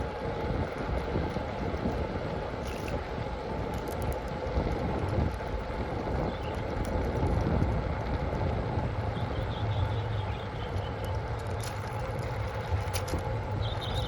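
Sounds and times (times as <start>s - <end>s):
vehicle running noise: 0.0s - 14.0s
wind rumble on microphone: 0.0s - 14.0s.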